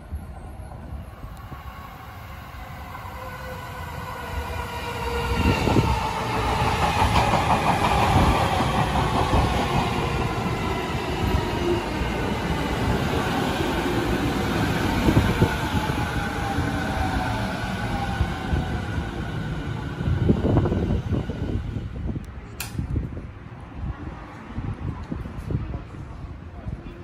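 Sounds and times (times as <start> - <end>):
train wheels rumbling on rails: 0.7 - 23.0.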